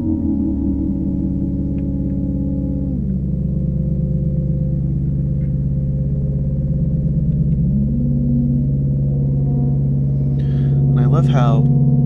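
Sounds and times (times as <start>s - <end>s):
droning gong-like synthesizer tones: 0.0s - 12.0s.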